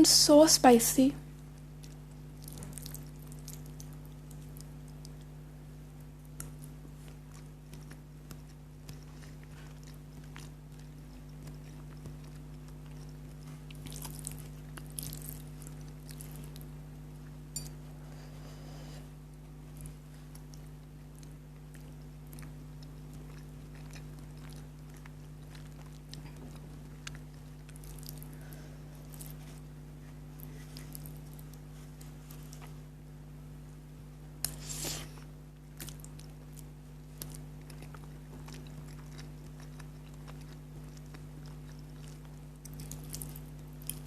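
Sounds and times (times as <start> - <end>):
person chewing noodles: 1.4 - 32.8, 34.4 - 44.0.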